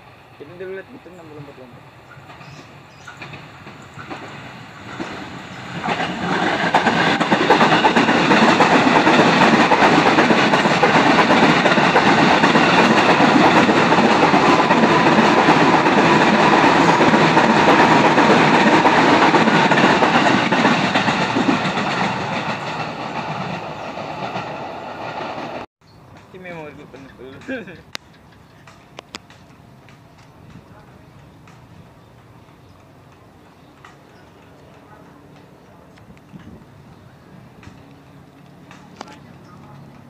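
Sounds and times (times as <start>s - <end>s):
electric train passing: 0.0s - 40.0s.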